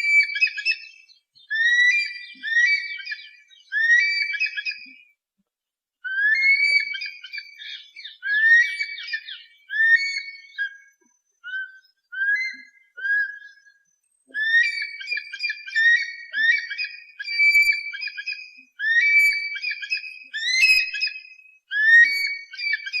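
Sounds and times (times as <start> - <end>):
eagle whistled cries: 0.0 - 5.0, 6.0 - 23.0.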